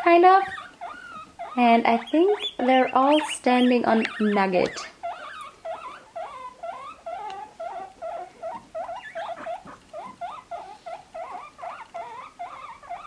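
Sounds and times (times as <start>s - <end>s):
guinea pig squeaking: 0.0s - 13.0s.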